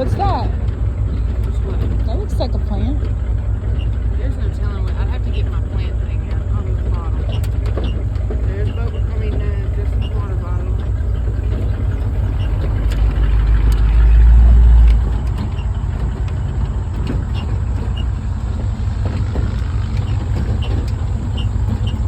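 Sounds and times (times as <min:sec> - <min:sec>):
knocks and rattles: 0:00.0 - 0:22.0
truck engine and road rumble: 0:00.0 - 0:22.0.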